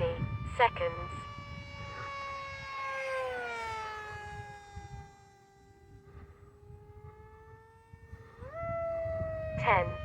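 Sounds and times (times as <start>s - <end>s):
model plane motor whining: 0.0s - 10.0s.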